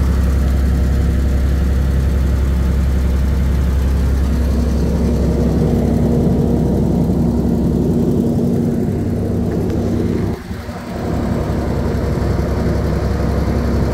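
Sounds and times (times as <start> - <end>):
diesel generator droning: 0.0 - 13.9.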